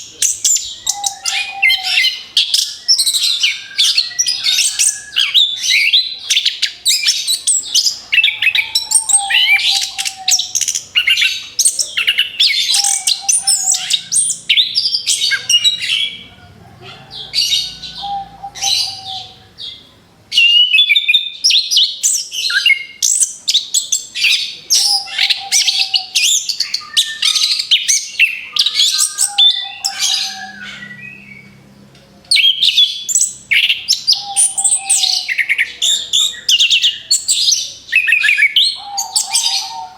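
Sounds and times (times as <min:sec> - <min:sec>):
thrush singing whistles and chatter: 0:00.0 - 0:39.9.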